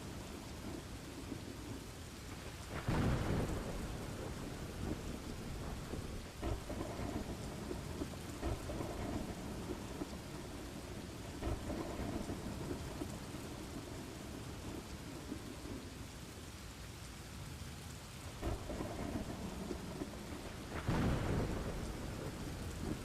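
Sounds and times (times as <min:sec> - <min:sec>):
thunder rumbling: 0:00.0 - 0:16.1, 0:18.2 - 0:23.0
steady rain: 0:00.0 - 0:23.0.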